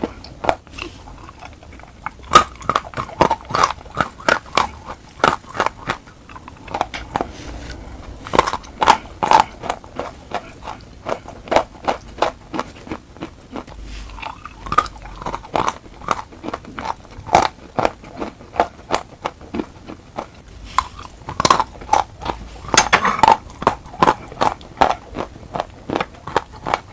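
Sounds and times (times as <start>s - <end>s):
chalk being chewed: 0.0s - 26.9s.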